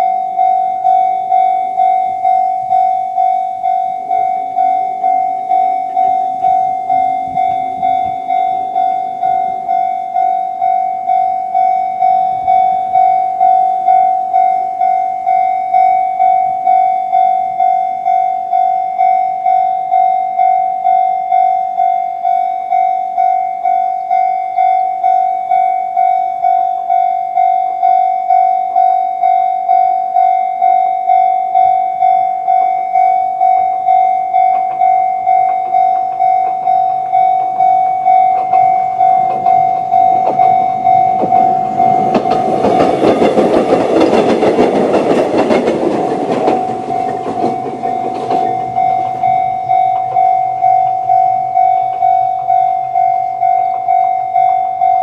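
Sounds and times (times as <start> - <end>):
level crossing bell ringing: 0.0 - 44.5, 45.4 - 55.0
electric train passing: 0.0 - 55.0.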